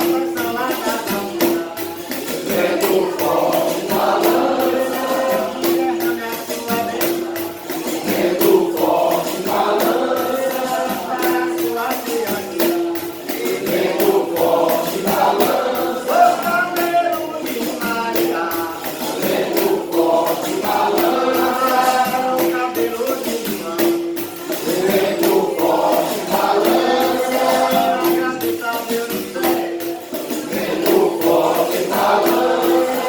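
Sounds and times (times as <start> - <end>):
hand percussion beat: 0.0 - 33.0
voices singing folk song: 0.0 - 33.0.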